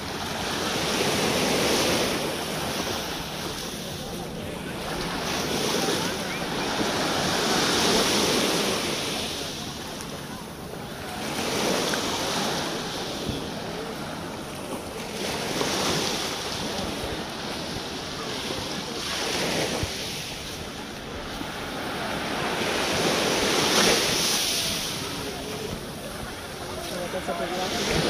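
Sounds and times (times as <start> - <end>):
waves washing on sandy beach: 0.0 - 28.0.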